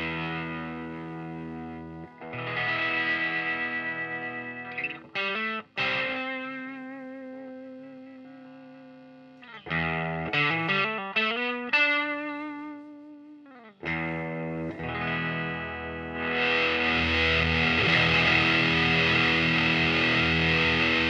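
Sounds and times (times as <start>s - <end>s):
fuzz electric guitar chords: 0.0s - 21.0s.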